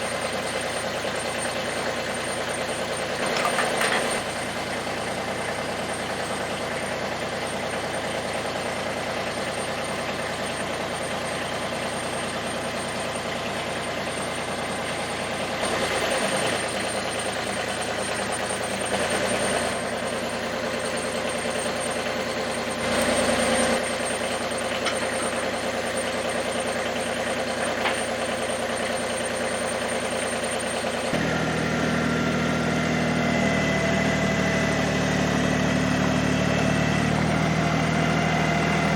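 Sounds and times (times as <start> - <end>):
tractor diesel engine idling: 0.0 - 38.9.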